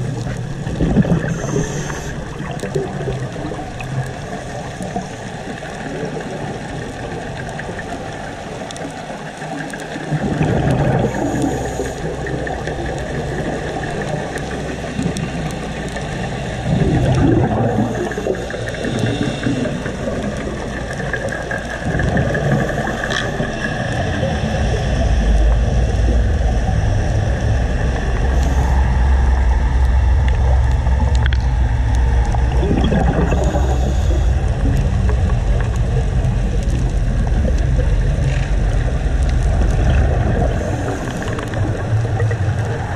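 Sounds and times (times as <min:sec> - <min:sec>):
low underwater rumble: 0:00.0 - 0:42.9.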